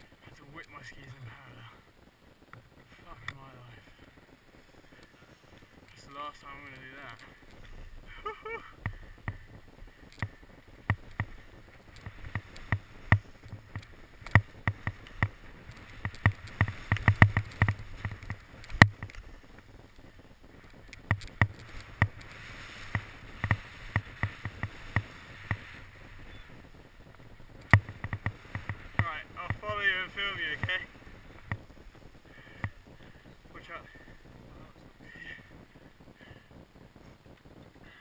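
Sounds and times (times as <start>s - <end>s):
skis clattering over bumps: 2.6s - 26.3s, 26.9s - 35.8s
skis scraping through snow: 2.8s - 38.0s.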